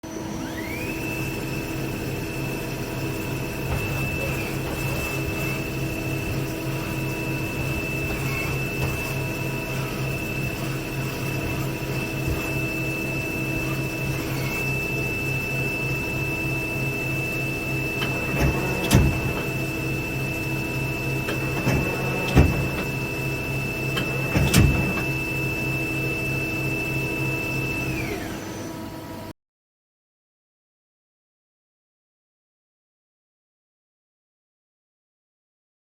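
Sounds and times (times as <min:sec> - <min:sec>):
pulsing machine hum: 0:00.0 - 0:28.9
lathe whine: 0:00.0 - 0:29.3.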